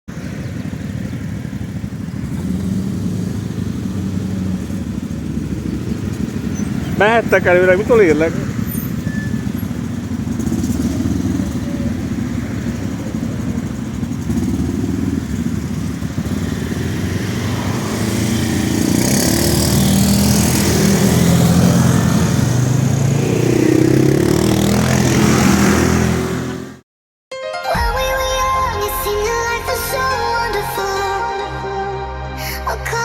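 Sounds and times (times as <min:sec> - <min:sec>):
atv engine running: 0:00.1 - 0:26.8.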